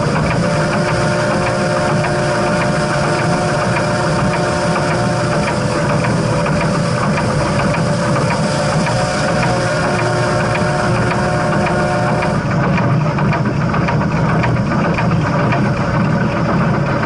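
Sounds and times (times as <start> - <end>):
steady tones: 0.0 - 14.4
steam train rumbling: 0.0 - 17.0.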